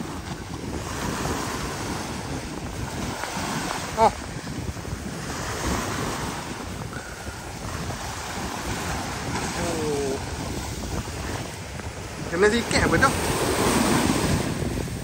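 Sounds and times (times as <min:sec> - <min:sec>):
steady wash of water: 0:00.0 - 0:15.0
wind blowing across microphone: 0:00.0 - 0:15.0.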